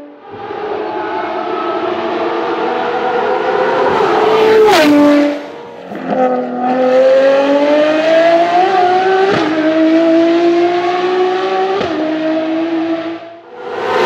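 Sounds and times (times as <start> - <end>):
car engine accelerating hard: 0.2 - 14.0.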